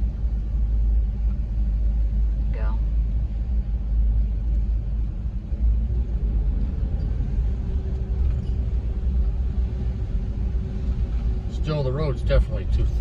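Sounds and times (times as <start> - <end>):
car driving rumble inside cabin: 0.0 - 13.0.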